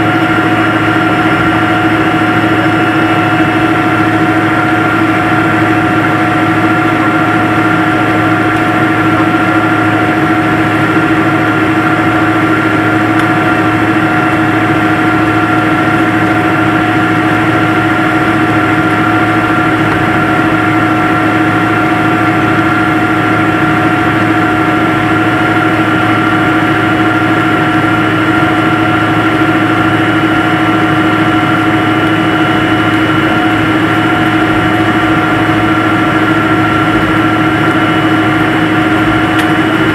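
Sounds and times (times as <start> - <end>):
jet engines idling in cabin: 0.0 - 39.9.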